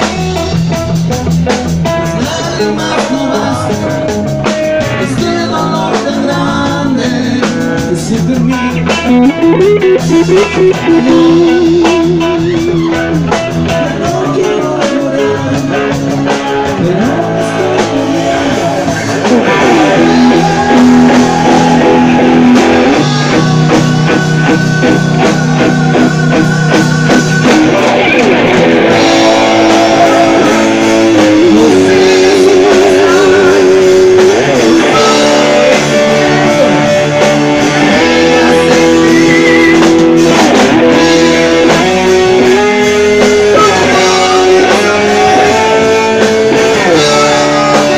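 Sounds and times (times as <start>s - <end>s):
drum kit: 0.0s - 47.9s
electric guitar: 0.0s - 47.9s.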